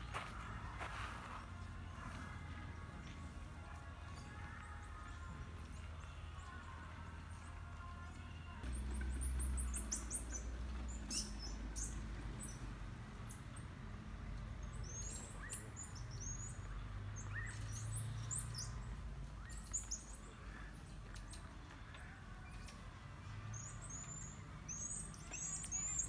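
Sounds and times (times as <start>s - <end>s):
small birds chirping: 4.2s - 13.8s, 14.4s - 26.0s.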